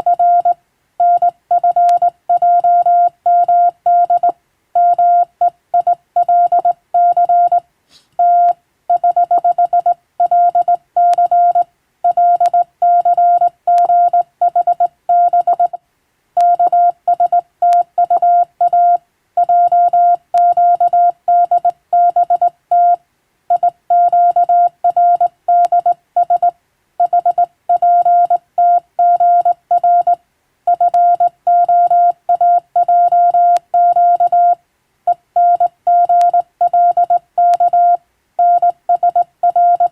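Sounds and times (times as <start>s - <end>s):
morse code tone: 0.0s - 7.6s, 8.2s - 15.8s, 16.4s - 39.9s.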